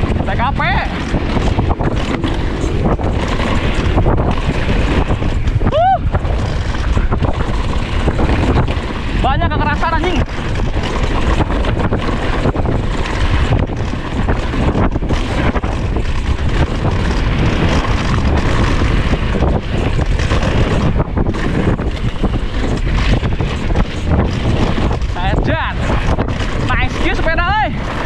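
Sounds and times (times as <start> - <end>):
bike knocks and rattles: 0.0 - 28.0
tyres rumbling on dirt: 0.0 - 28.0
wind on microphone: 0.0 - 28.0.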